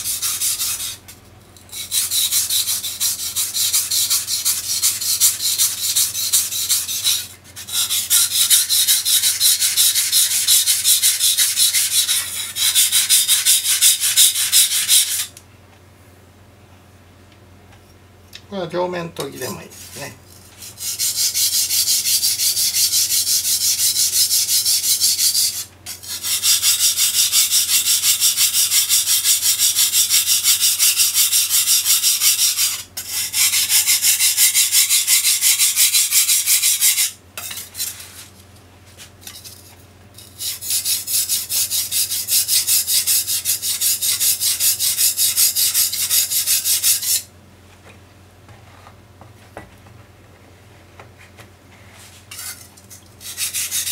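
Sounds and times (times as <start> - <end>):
knife scraping on whetstone: 0.0 - 1.1, 1.7 - 15.4, 19.4 - 47.3, 52.0 - 53.9.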